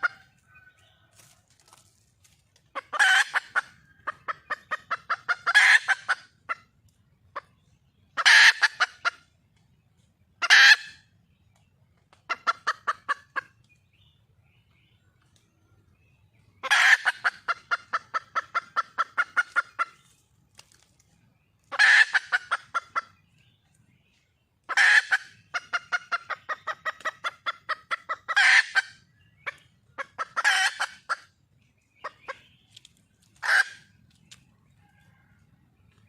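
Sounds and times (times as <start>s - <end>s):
hen clucking: 0.0s - 1.9s, 2.6s - 20.3s, 21.5s - 36.0s.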